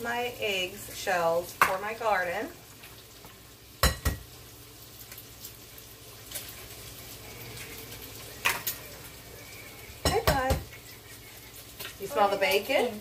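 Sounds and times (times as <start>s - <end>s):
bacon sizzling: 0.0s - 13.0s.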